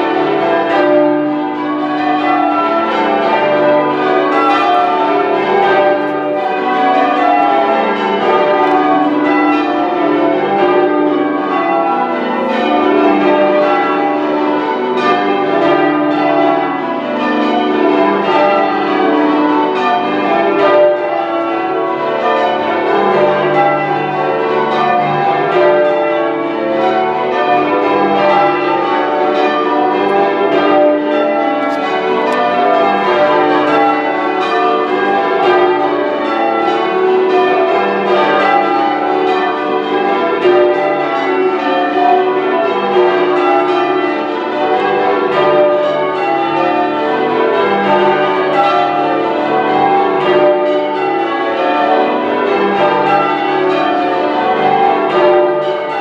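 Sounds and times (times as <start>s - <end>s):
church bells change ringing: 0.0s - 56.0s.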